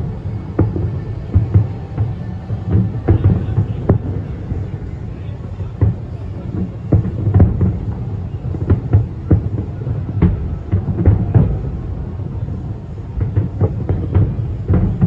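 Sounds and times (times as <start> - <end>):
continuous low rumble: 0.0 - 15.0
fireworks bangs and booms: 0.0 - 15.0.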